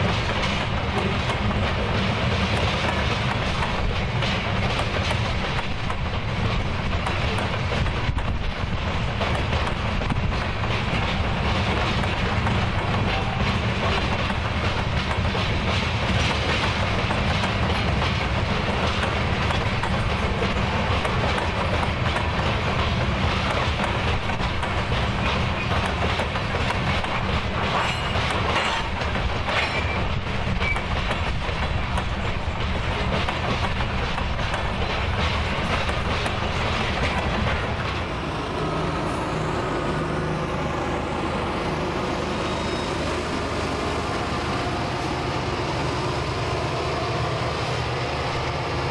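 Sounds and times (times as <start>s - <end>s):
freight train wheels clicking: 0.0s - 39.5s, 41.7s - 48.9s.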